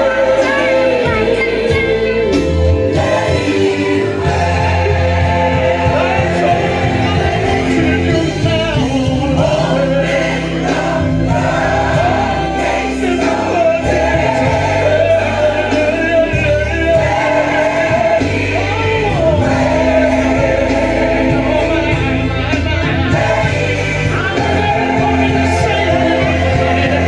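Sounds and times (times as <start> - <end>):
choir singing: 0.0 - 27.0
man singing lead: 0.0 - 27.0
steady bass line: 0.0 - 27.0.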